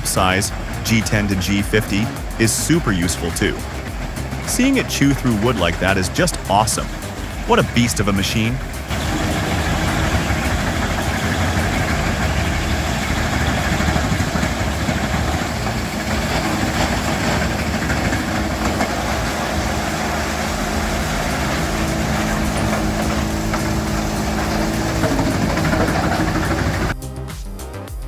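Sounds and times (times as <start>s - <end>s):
wood chipper grinding logs: 0.0s - 27.0s
steady hum: 0.0s - 28.0s.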